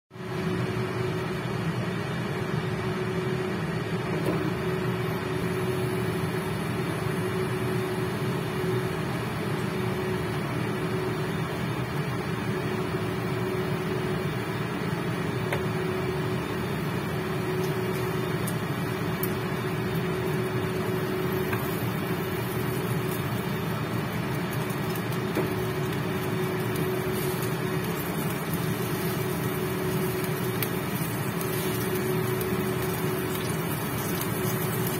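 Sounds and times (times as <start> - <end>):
induction hob hum and fan: 0.1 - 34.9
oil frying in a wok: 0.1 - 34.9.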